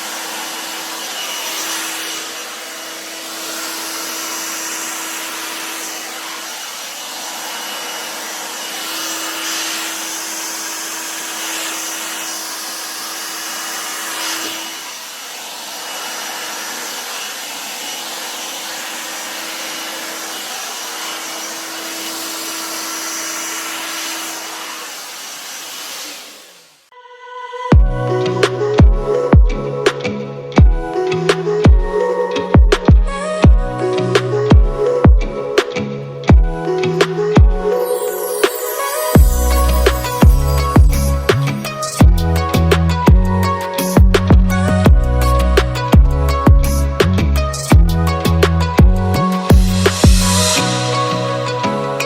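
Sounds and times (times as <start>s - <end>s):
hairdryer blowing: 0.0s - 26.8s, 28.5s - 52.0s.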